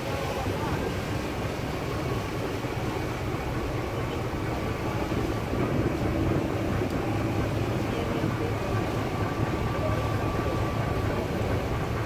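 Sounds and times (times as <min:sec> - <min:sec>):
ferry engine rumbling: 0:00.0 - 0:12.0.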